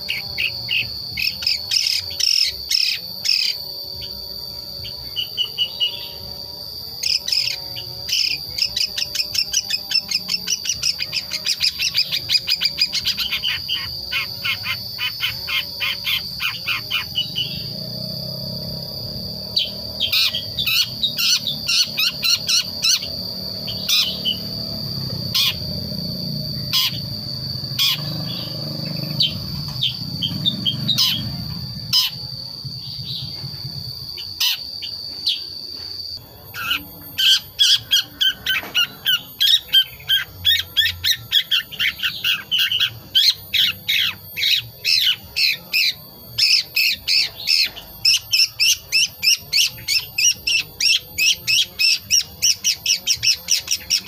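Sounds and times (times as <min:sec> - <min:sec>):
high-pitched buzz: 0:00.0 - 0:54.0
sharp bird chirps: 0:00.0 - 0:54.0.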